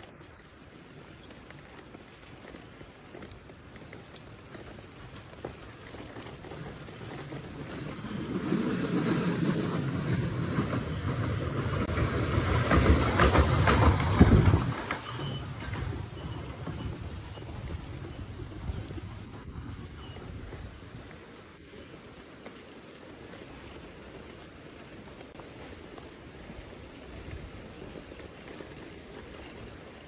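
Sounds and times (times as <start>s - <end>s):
rail cars rumbling and clattering: 2.3s - 30.0s.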